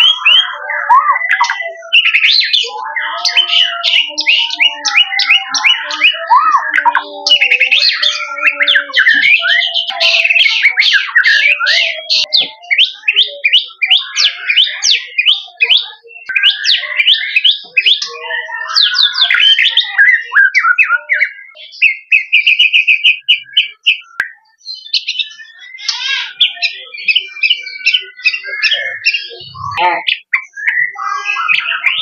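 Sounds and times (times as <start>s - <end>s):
bird singing whistles and trills: 0.0s - 32.0s.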